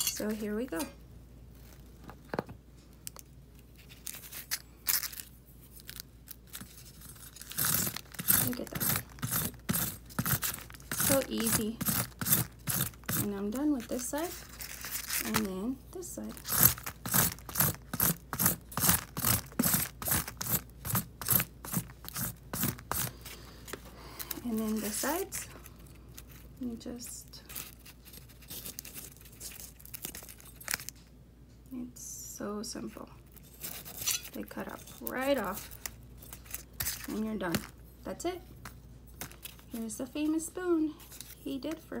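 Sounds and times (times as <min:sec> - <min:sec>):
scraping and crinkling on paper: 0:03.5 - 0:31.0, 0:33.2 - 0:37.8, 0:38.6 - 0:42.0.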